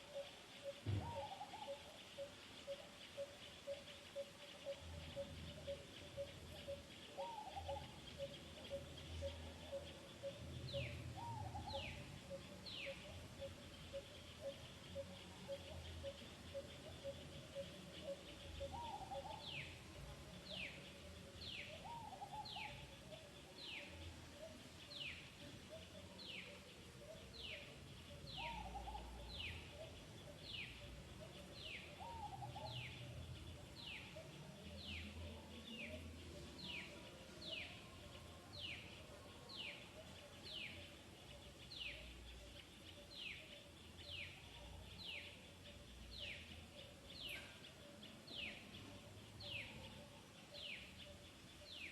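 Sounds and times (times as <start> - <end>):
lower warbling bird calls: 0.0 - 51.9.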